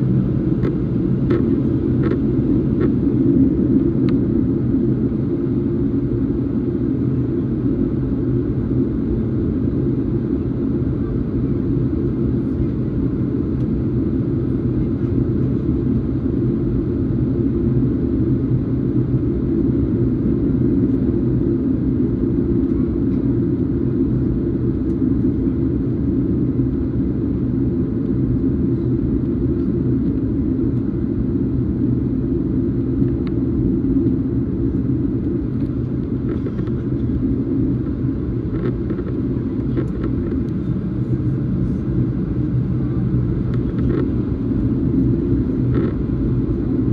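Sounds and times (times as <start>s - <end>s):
airplane cabin engine drone: 0.0s - 46.9s.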